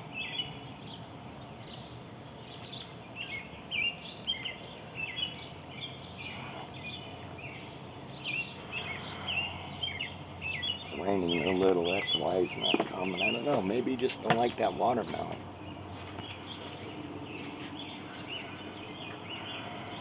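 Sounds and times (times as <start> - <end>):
low outdoor background noise: 0.0 - 20.0
songbirds chirping: 0.0 - 20.0.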